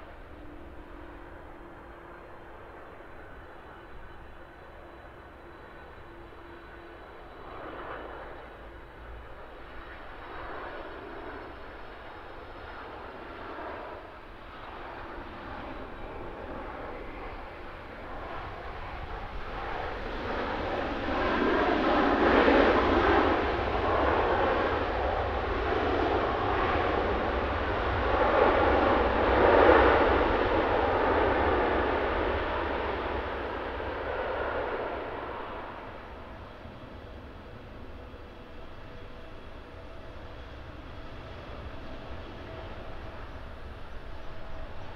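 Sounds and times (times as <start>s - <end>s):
jet engine noise: 0.0s - 44.9s.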